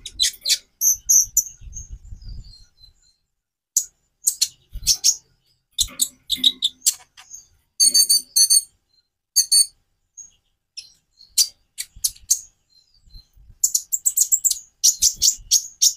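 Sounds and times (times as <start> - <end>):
sunbird high-pitched chirps: 0.0 - 15.9.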